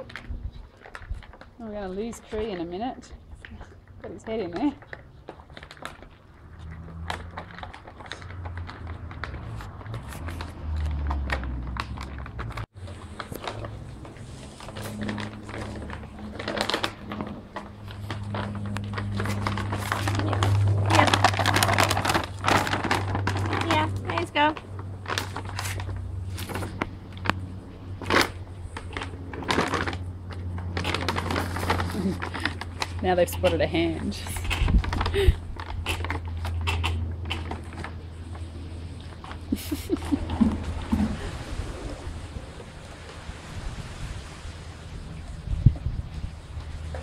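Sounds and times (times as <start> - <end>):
plastic bag crinkling: 0.0 - 2.5, 4.5 - 41.1.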